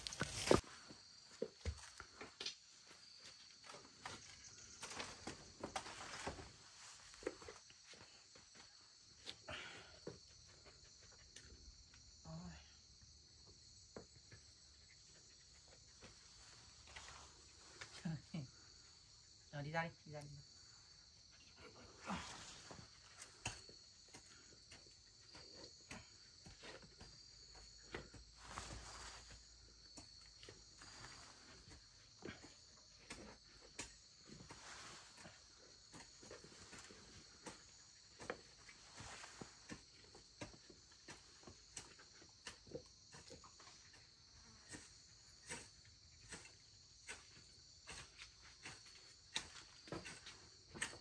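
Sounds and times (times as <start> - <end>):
insects chirring: 0.0 - 9.6, 10.2 - 51.0.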